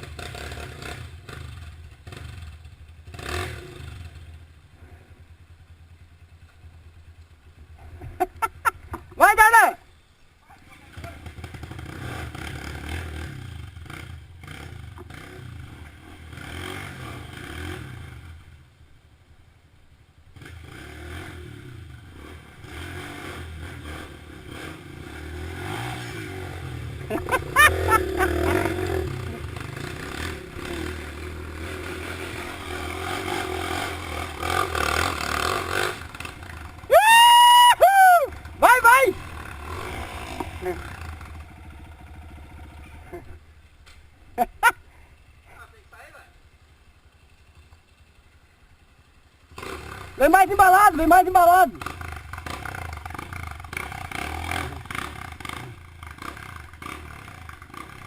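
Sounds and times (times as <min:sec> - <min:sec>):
motorcycle engine revving: 0:00.0 - 0:09.5, 0:10.7 - 0:18.8, 0:20.2 - 0:58.0.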